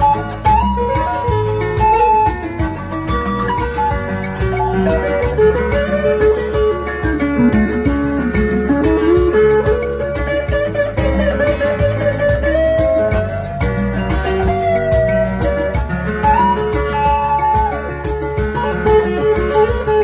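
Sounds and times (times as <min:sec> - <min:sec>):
bass: 0:00.0 - 0:20.0
plucked guitar melody: 0:00.0 - 0:20.0
steady beat: 0:00.0 - 0:20.0.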